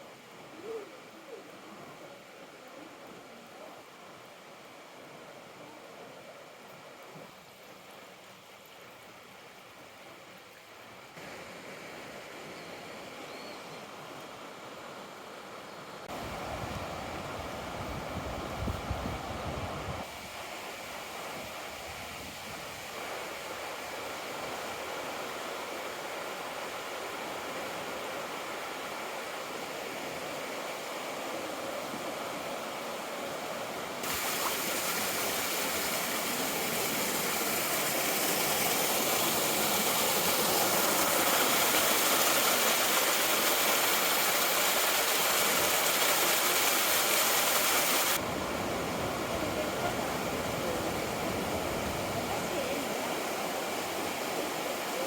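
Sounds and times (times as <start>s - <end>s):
river water rushing: 7.8s - 55.0s.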